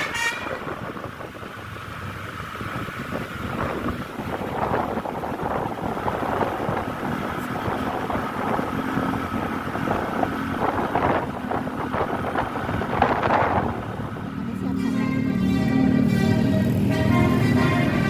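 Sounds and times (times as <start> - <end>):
wind buffeting microphone: 0.0 - 14.6
bus engine running: 0.0 - 18.0.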